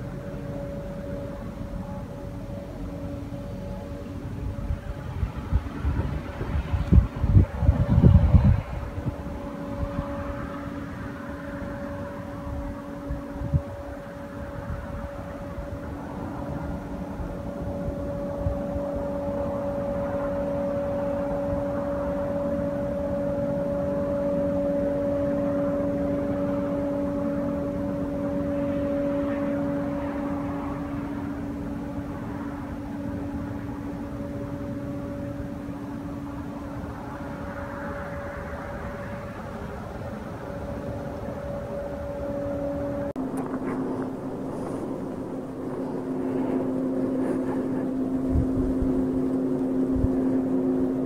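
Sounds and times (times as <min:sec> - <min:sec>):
droning hum in the sky: 0:00.0 - 0:51.0
low rumble: 0:00.0 - 0:51.0.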